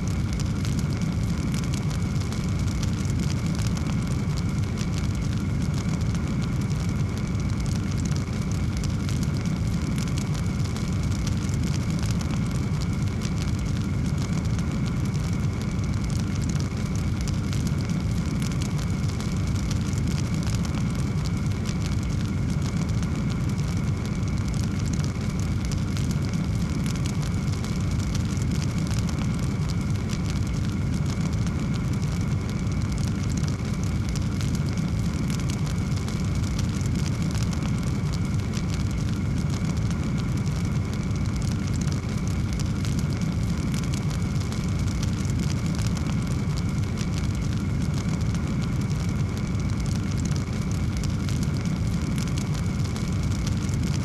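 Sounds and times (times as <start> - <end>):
fire crackling and popping: 0.0 - 54.0
wood fire burning: 0.0 - 54.0.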